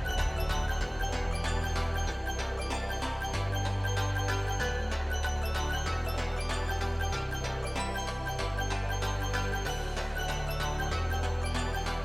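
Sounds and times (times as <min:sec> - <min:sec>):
bell-like tinkling notes: 0:00.0 - 0:12.0
sustained bass notes: 0:00.0 - 0:12.0.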